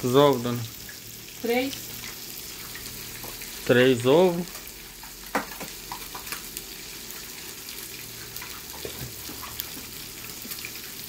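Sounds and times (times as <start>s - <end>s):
fish frying in hot oil: 0.0s - 11.0s
small crackles and pops: 0.4s - 3.7s, 4.3s - 11.0s.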